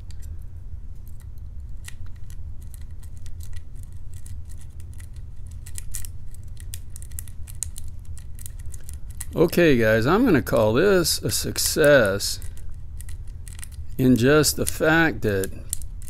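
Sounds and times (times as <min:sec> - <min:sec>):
steady low hum: 0:00.0 - 0:16.0
lock pick clicking and scratching: 0:01.0 - 0:09.4, 0:11.5 - 0:16.0.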